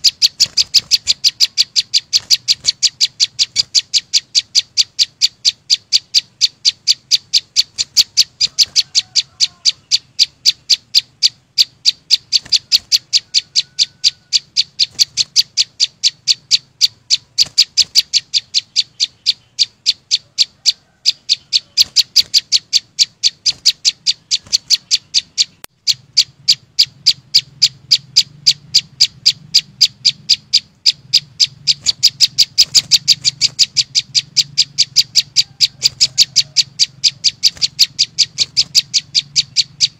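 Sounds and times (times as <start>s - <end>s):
bird sharp high chips: 0.0s - 39.9s.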